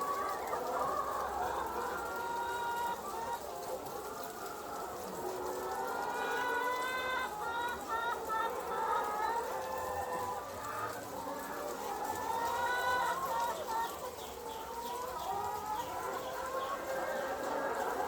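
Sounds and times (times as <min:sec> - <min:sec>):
hens clucking: 0:00.0 - 0:18.0.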